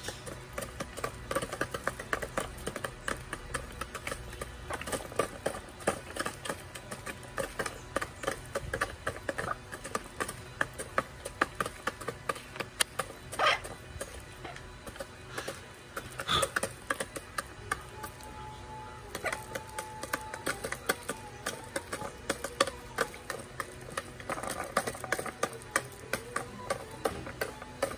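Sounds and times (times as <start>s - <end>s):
chickens pecking feed: 0.0s - 27.9s
chicken clucks: 0.6s - 27.9s.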